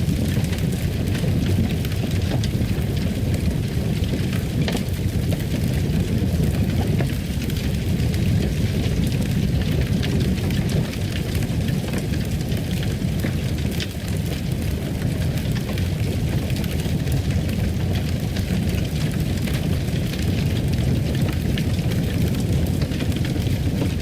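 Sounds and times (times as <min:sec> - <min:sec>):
fire crackling and roaring: 0:00.0 - 0:24.0.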